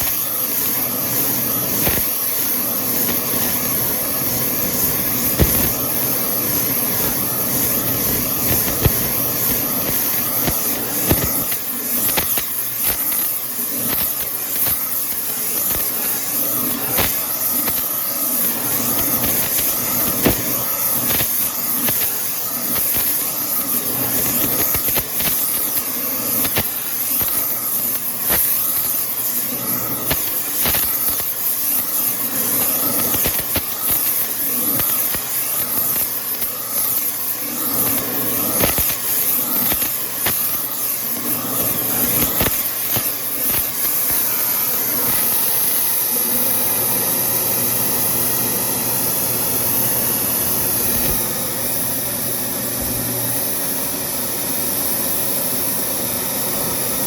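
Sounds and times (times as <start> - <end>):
arc welding crackling hiss: 0.0 - 57.0.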